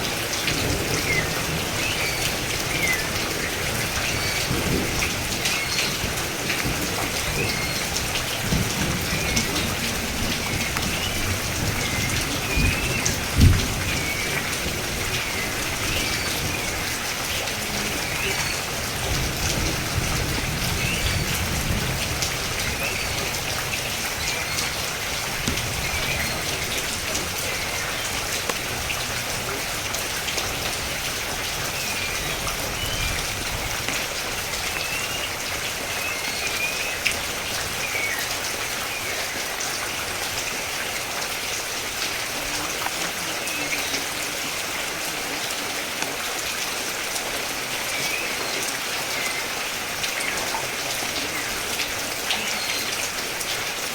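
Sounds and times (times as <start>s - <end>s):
rain pattering: 0.0s - 53.9s.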